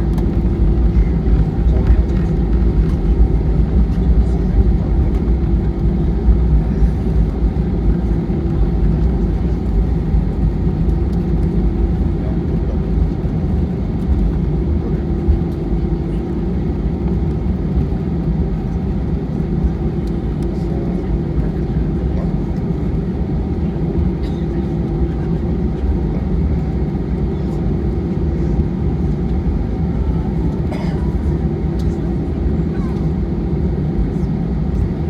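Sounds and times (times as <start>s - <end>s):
airplane cabin drone: 0.0s - 35.0s.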